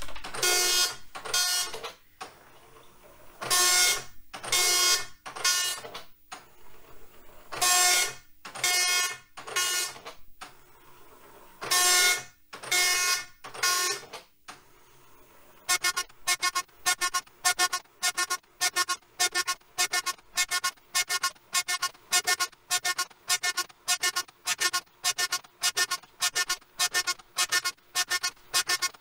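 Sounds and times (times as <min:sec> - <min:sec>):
dot-matrix printer head buzzing: 0:00.0 - 0:29.0.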